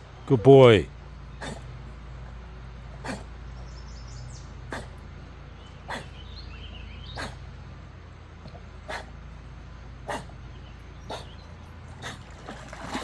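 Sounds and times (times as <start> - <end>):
dog breathing hard: 0.0 - 13.0.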